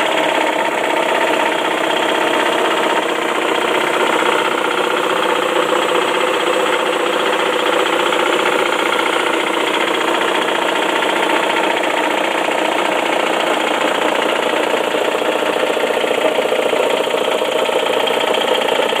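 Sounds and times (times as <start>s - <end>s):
car engine idling: 0.0s - 19.0s
fast engine knock: 0.0s - 19.0s.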